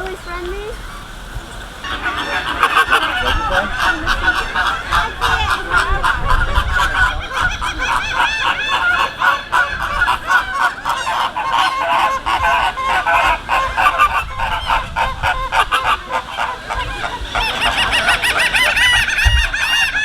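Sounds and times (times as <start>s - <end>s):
flamingos honking: 0.0s - 20.0s.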